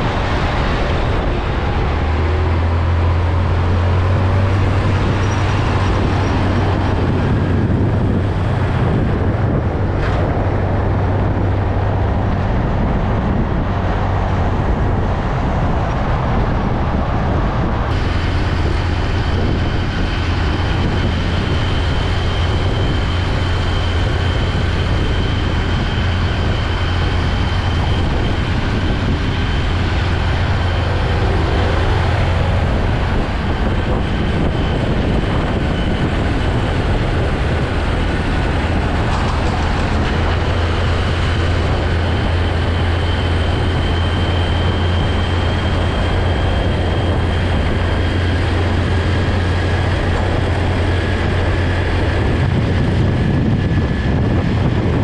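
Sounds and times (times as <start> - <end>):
highway traffic rushing: 0.0 - 55.0
semi truck passing close: 0.0 - 55.0.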